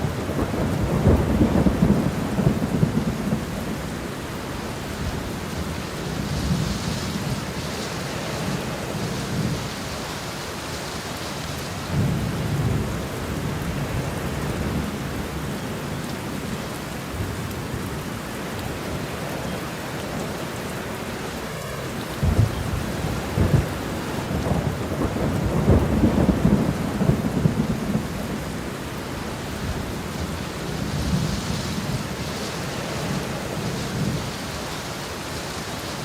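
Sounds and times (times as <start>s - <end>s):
thunder rumbling: 0.0s - 10.0s, 11.8s - 15.5s, 19.4s - 34.5s
rain falling: 0.0s - 36.0s.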